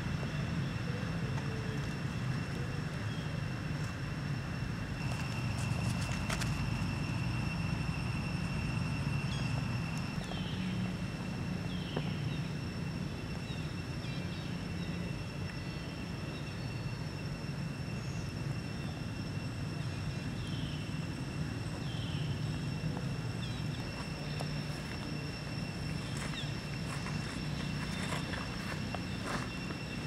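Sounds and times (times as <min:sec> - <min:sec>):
high whine: 0:00.0 - 0:30.0.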